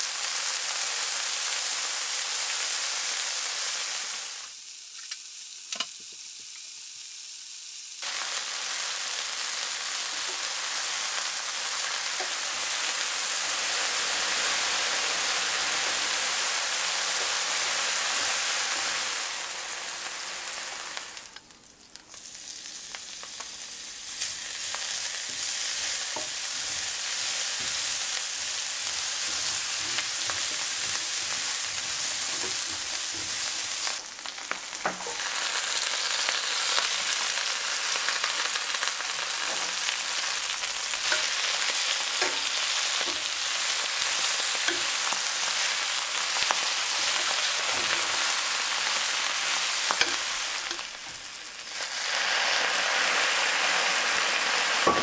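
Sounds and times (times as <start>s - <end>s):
food sizzling in a skillet: 0.0s - 55.0s.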